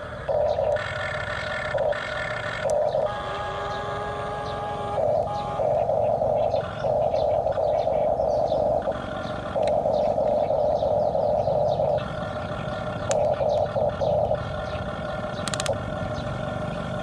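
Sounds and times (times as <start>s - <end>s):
toy excavator motors whirring: 0.0s - 17.0s.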